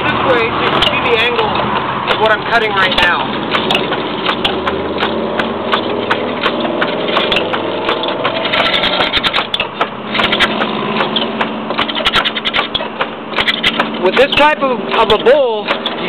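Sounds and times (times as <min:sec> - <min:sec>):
gouge scraping wood on lathe: 0:00.6 - 0:16.0
rapid ticking patter: 0:00.7 - 0:16.0.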